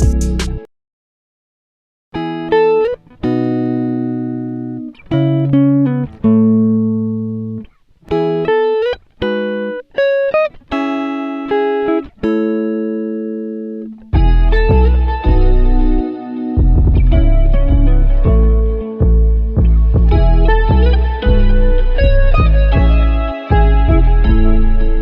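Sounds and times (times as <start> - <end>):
plucked guitar-like melody: 0.0 - 0.7, 2.2 - 25.0.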